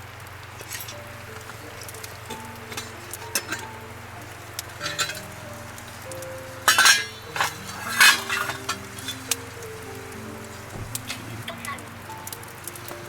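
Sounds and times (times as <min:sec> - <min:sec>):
metal cookware clattering: 0:00.6 - 0:13.0.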